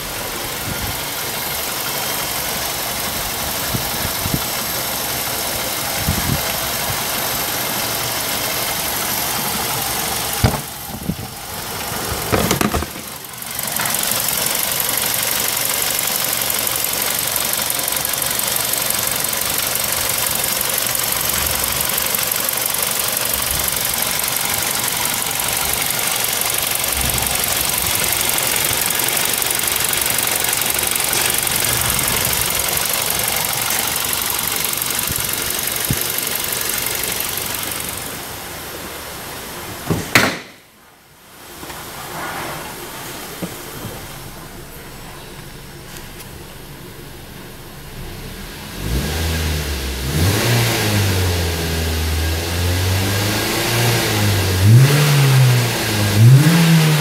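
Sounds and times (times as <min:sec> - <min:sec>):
car engine idling: 0:00.0 - 0:40.5, 0:42.7 - 0:57.0.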